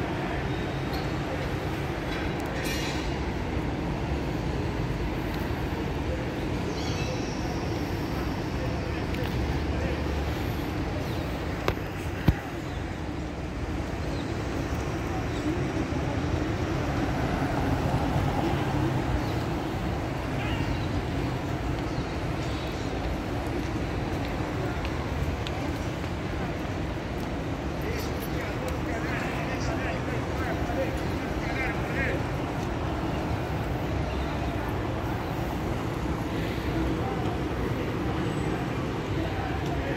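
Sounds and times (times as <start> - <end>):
city traffic hum: 0.0 - 39.9.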